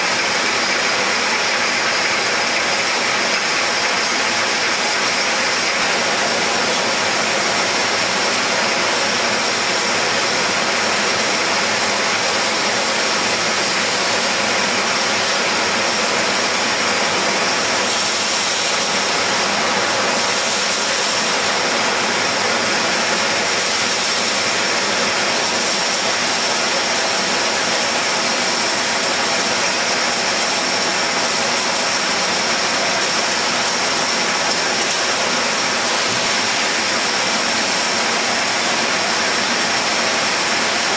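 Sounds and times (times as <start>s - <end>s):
bottle filling machine hissing: 0.0s - 40.9s.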